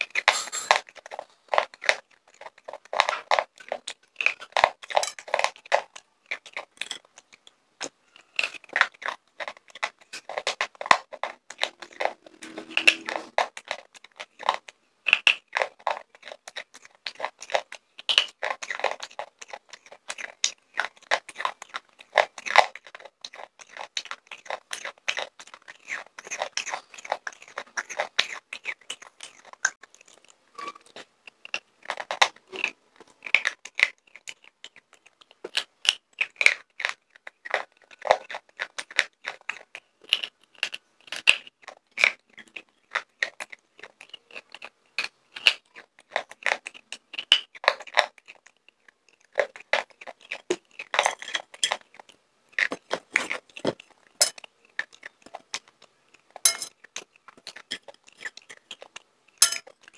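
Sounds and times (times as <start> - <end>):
sharp crunching and chewing: 0.0 - 59.9.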